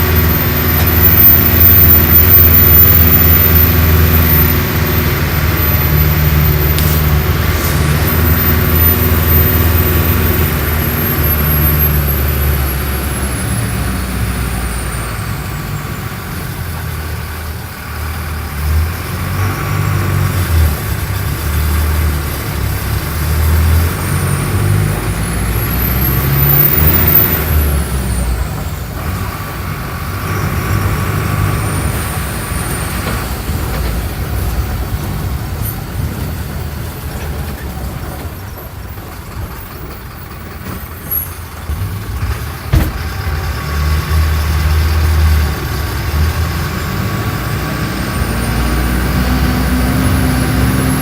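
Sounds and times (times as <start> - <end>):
bus diesel engine running: 0.0 - 51.0.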